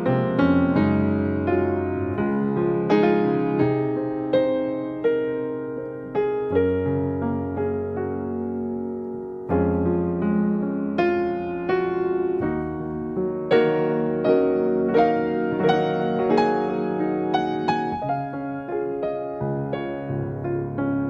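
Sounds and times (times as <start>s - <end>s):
slow piano melody: 0.0s - 21.0s.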